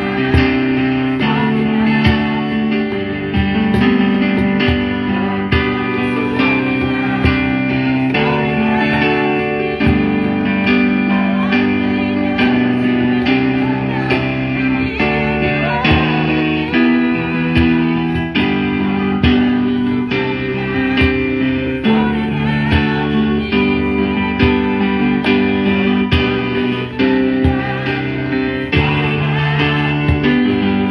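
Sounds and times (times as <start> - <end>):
strummed guitar chords: 0.0 - 30.9.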